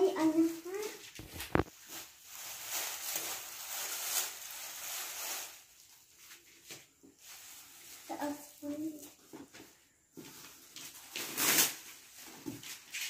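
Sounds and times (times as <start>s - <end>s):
plastic sleeves rustling and crinkling: 0.0s - 13.0s.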